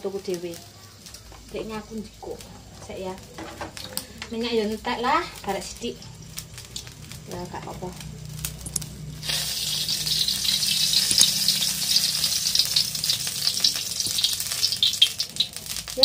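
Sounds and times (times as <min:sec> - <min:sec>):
oil hissing in a wok: 0:00.0 - 0:16.0.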